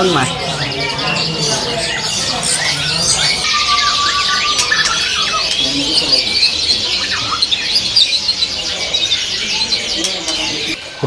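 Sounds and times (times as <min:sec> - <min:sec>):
bird whistling: 0:00.0 - 0:10.8
songbirds singing and chattering: 0:00.0 - 0:11.0.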